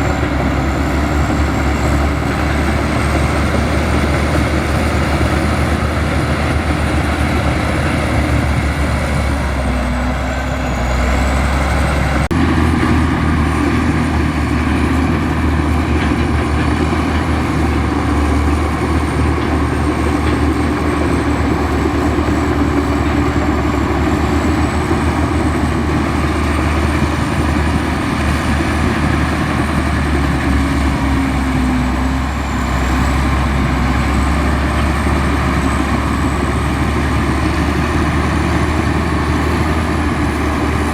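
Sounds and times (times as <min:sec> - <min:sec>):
heavy diesel machinery rumbling: 0:00.0 - 0:40.9.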